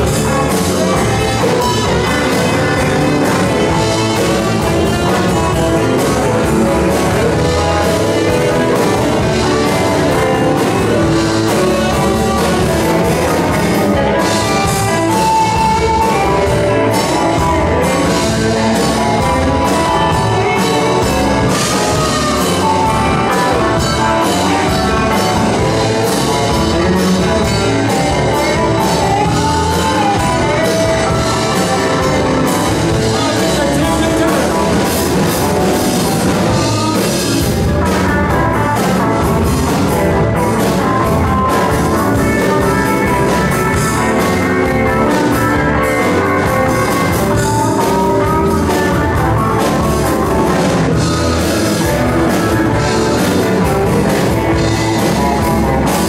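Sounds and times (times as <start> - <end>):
person singing: 0.0 - 50.4
live rock band playing: 0.0 - 56.0.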